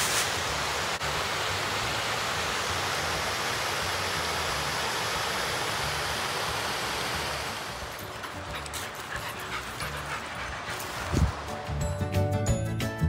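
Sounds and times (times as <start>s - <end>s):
creek water rushing over stones: 0.0s - 11.7s.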